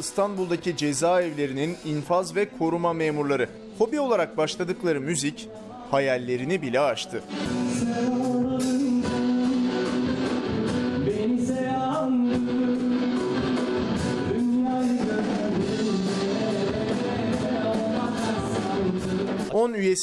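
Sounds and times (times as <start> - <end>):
guitar accompaniment: 0.0 - 19.6
man singing long notes: 2.3 - 10.4, 11.0 - 19.5.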